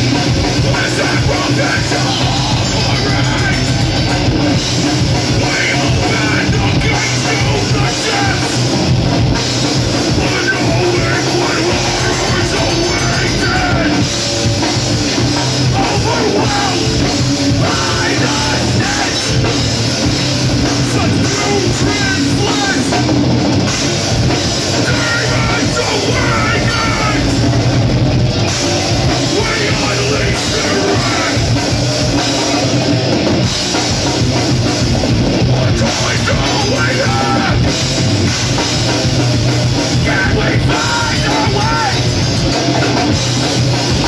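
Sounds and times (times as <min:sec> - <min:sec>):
heavy metal band playing live: 0:00.0 - 0:44.0.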